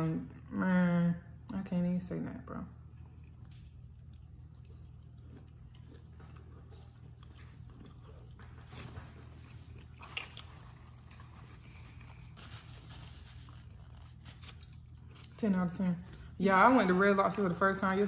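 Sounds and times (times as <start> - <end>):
person chewing with crunches: 2.8 - 17.5.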